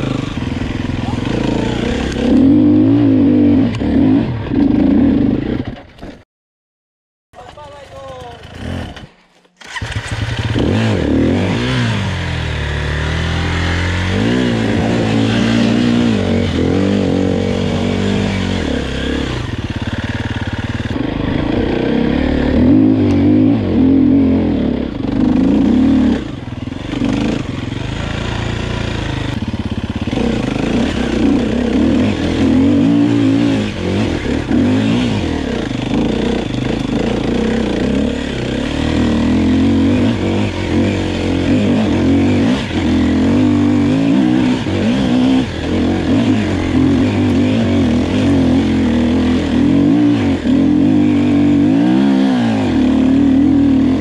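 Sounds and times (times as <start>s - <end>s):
motorcycle engine revving: 0.0s - 6.2s, 7.4s - 54.0s.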